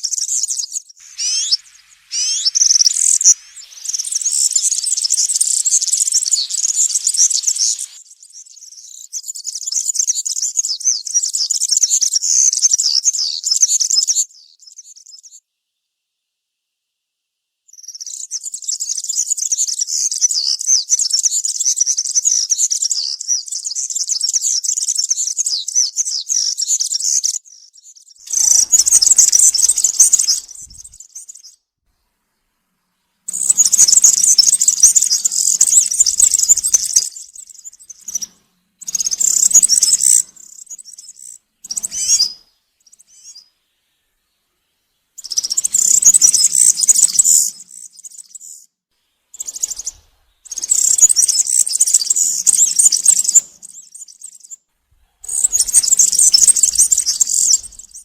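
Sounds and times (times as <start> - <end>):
bird singing high-pitched song: 0.0 - 15.4, 17.7 - 31.7, 33.3 - 44.4, 45.0 - 58.0.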